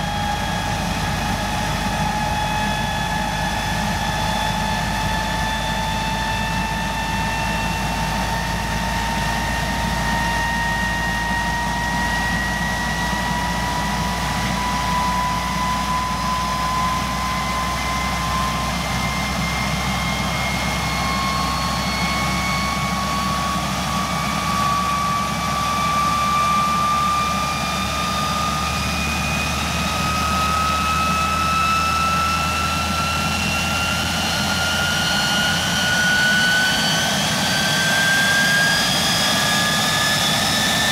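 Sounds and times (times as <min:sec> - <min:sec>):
jet engine whine: 0:00.0 - 0:40.9.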